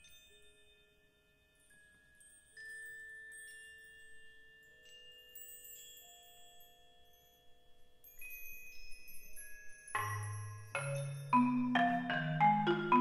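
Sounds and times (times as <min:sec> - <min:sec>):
mallet percussion bell-like notes: 0:00.0 - 0:13.0.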